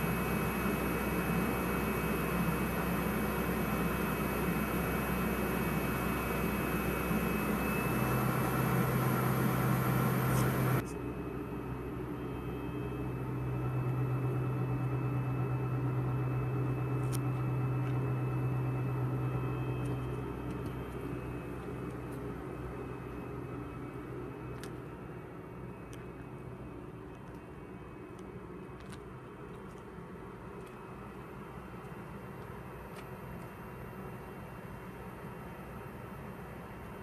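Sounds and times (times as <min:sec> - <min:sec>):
locomotive low hum: 0:00.0 - 0:37.0.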